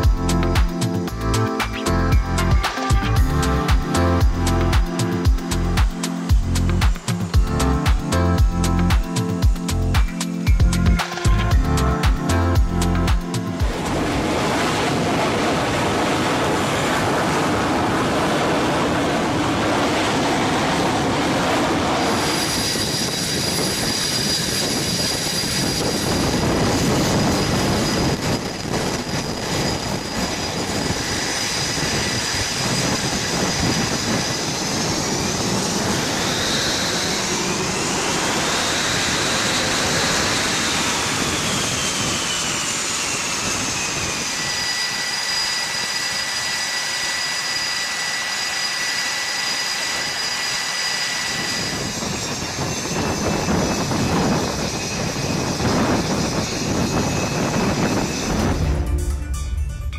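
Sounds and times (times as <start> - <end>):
jet engines roaring and whining: 0.0 - 59.9.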